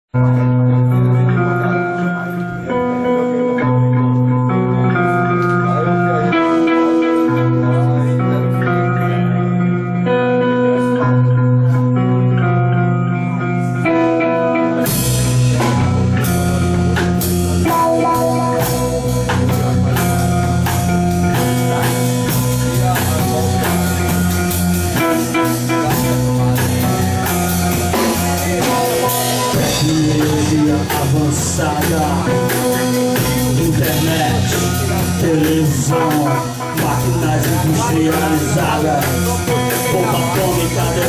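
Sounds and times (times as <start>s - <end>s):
electric guitar chords: 0.1s - 41.0s
rock band playing: 0.1s - 41.0s.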